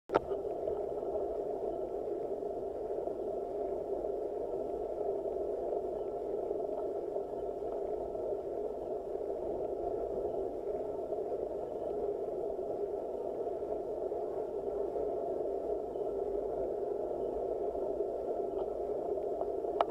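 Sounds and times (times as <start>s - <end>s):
faint high steady tone: 0.1s - 19.9s.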